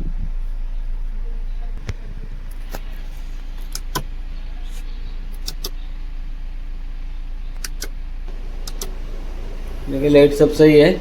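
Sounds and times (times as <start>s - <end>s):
car engine idling: 0.5s - 11.0s.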